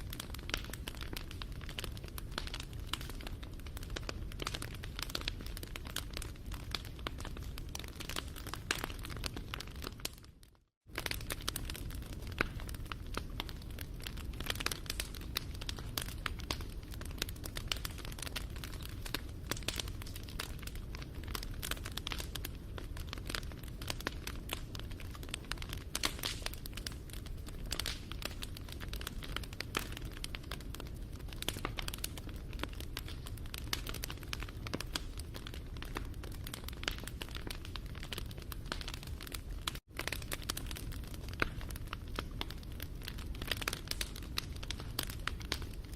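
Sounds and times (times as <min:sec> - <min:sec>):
low rumble of burning: 0:00.0 - 0:45.9
wood fire crackling and popping: 0:00.0 - 0:45.9.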